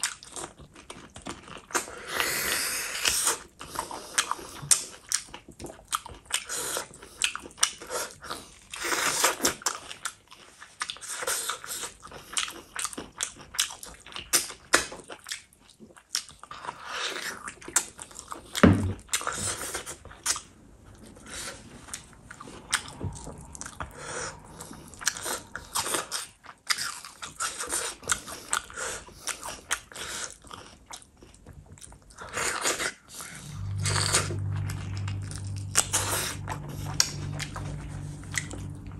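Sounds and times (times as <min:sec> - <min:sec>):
person chewing food: 0:00.0 - 0:34.7.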